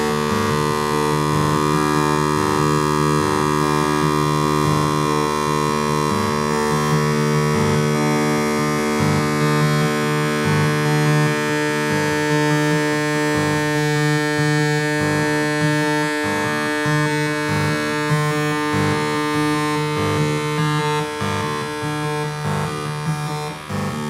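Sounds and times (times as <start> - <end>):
low synth tones switching on and off: 0.0 - 24.0.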